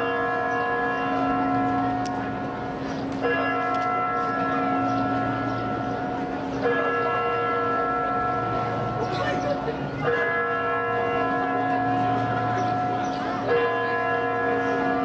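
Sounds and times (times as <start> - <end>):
large bell tolling: 0.0 - 15.0.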